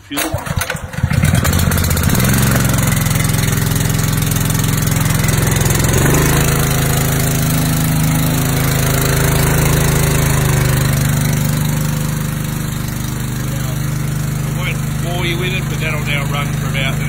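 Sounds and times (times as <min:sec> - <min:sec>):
small engine running: 0:00.2 - 0:17.0.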